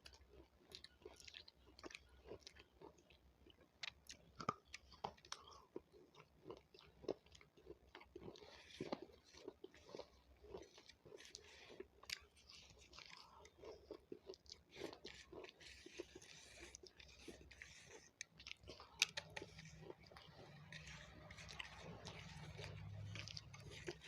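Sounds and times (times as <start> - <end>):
person chewing crunchy vegetable: 0.0 - 24.0.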